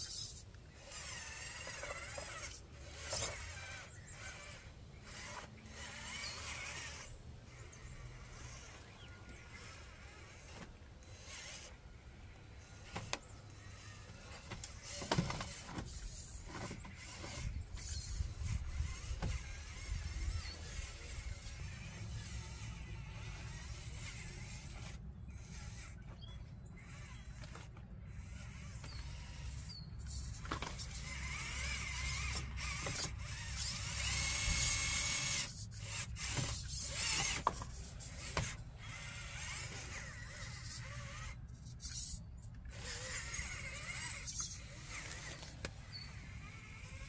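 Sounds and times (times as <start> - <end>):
rc truck electric motor whining: 0.0 - 47.0.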